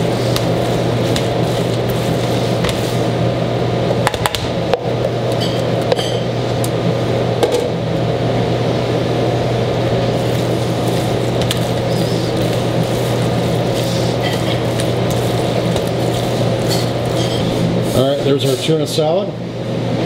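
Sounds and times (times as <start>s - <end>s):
kitchen equipment humming: 0.0s - 20.0s.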